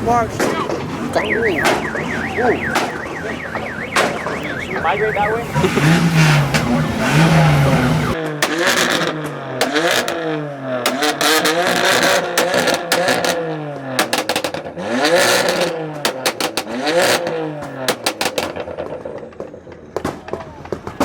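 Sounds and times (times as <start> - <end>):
exhaust cracks and pops: 0.2 - 21.0
car engine revving hard: 0.6 - 19.0.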